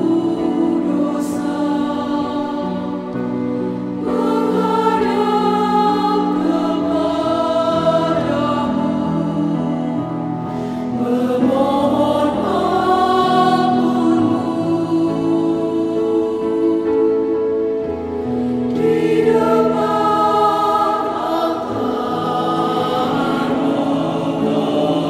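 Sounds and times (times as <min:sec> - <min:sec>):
mixed choir singing: 0:00.0 - 0:25.0.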